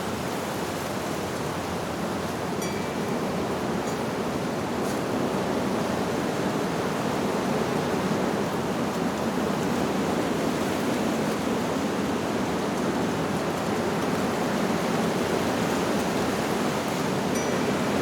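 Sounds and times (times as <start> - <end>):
wind rushing through leaves: 0.0 - 18.0.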